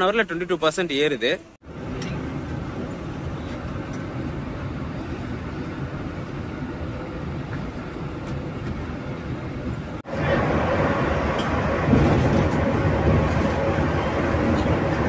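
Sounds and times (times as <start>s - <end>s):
bus cabin rumble: 1.7s - 15.0s.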